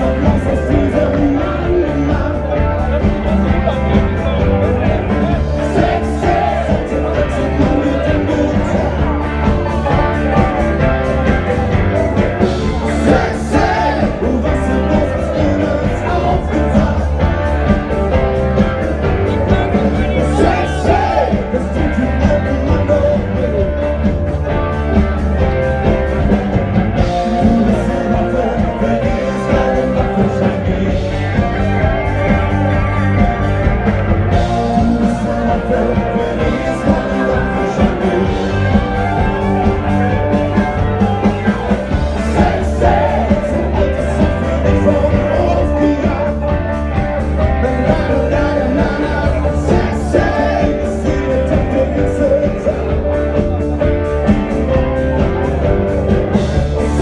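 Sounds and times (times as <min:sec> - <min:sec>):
loud music with singing: 0:00.0 - 0:57.0.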